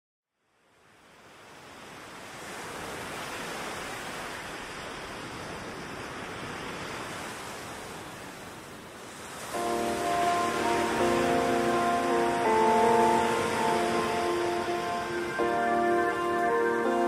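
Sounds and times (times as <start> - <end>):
ocean surf washing onto beach: 0.9 - 17.0.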